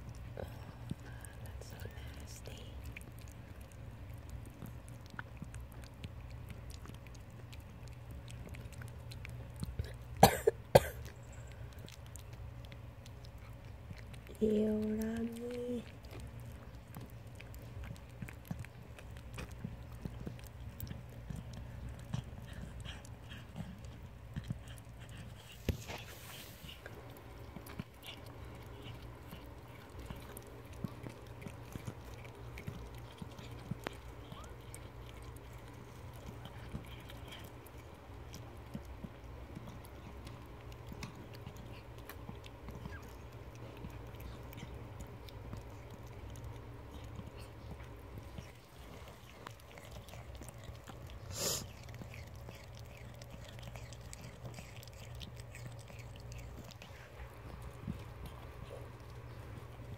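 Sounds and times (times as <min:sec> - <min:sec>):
cat licking and chewing: 0:00.0 - 0:59.9
low steady hum: 0:00.0 - 0:59.9.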